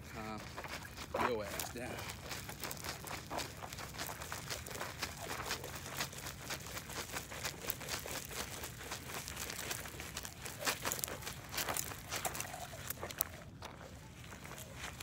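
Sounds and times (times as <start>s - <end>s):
fish thrashing on gravel: 0.5s - 15.0s.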